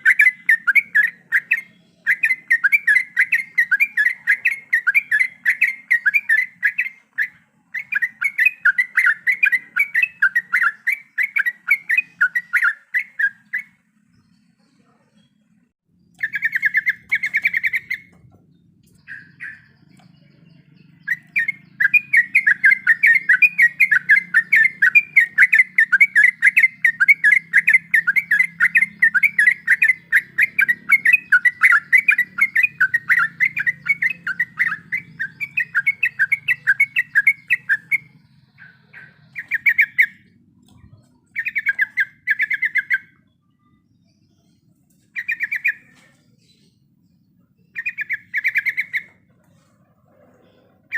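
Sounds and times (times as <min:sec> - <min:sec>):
bird singing rolling trills: 0:00.0 - 0:50.9.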